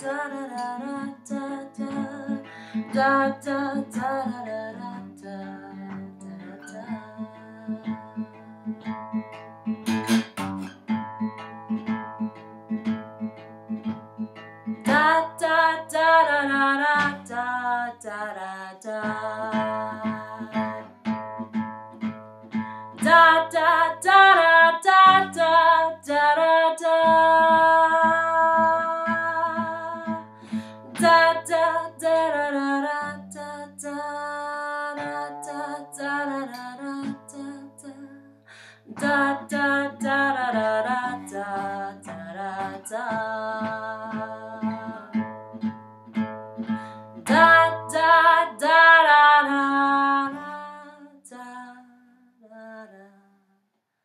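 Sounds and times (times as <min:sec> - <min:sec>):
woman singing blues: 0:00.0 - 0:08.8, 0:14.9 - 0:21.0, 0:22.8 - 0:45.3, 0:46.8 - 0:53.3
acoustic guitar picking: 0:00.0 - 0:18.1, 0:18.9 - 0:37.9, 0:38.9 - 0:50.5.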